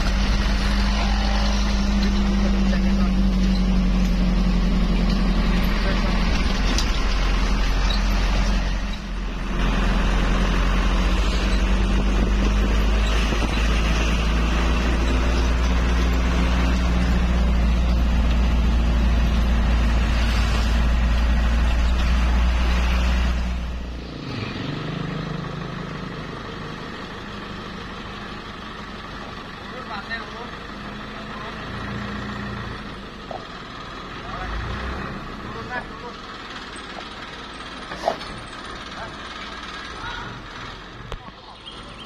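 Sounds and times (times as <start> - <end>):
road noise: 0.0 - 42.0
truck engine rumble: 0.0 - 42.0.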